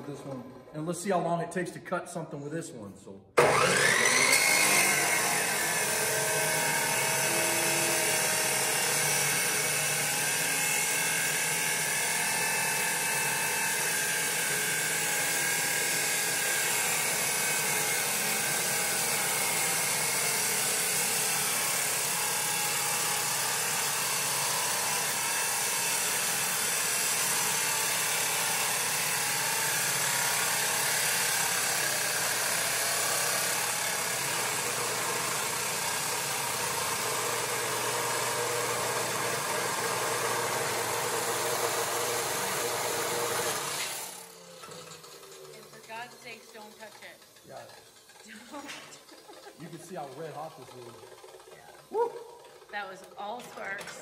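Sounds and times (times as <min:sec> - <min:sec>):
chop saw grinding steel: 0:03.4 - 0:54.0.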